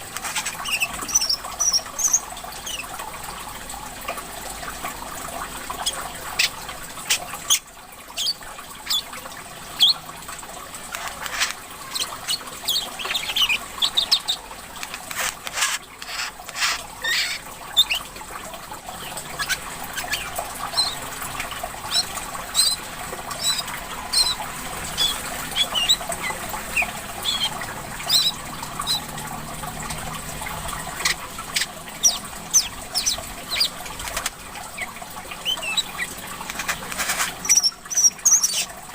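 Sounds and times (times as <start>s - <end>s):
trickle of running water: 0.0s - 38.9s.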